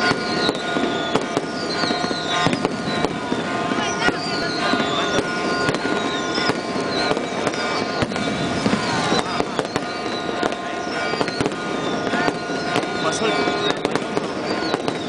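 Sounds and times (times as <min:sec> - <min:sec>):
church bells ringing: 0:00.0 - 0:15.0
fireworks bangs and crackle: 0:00.0 - 0:15.0.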